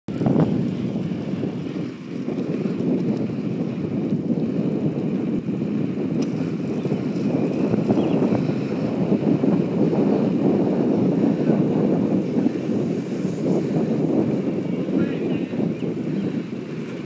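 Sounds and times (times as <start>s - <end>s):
wheels rolling on asphalt: 0.1s - 17.0s
wind buffeting microphone: 0.1s - 17.0s.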